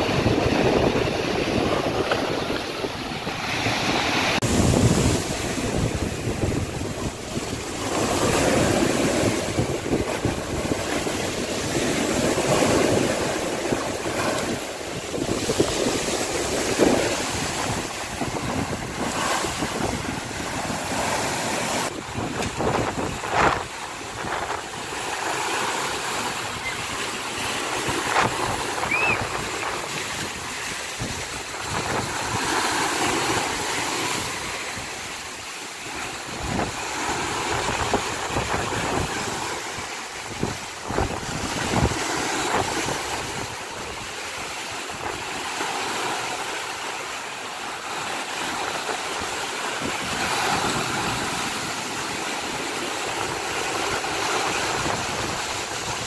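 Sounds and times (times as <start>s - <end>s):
wind buffeting microphone: 0.0s - 45.5s, 48.7s - 56.0s
waves breaking on seawall: 0.0s - 56.0s.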